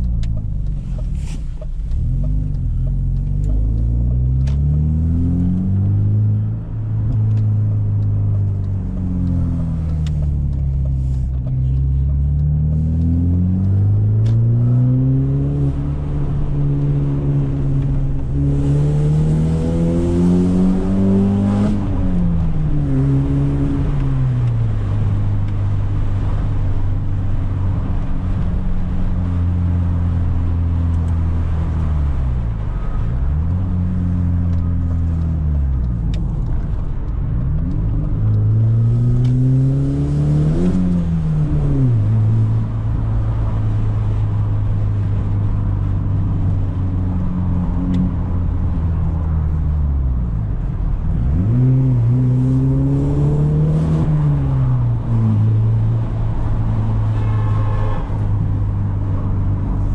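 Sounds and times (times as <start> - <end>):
car engine with loud exhaust: 0.0 - 59.9.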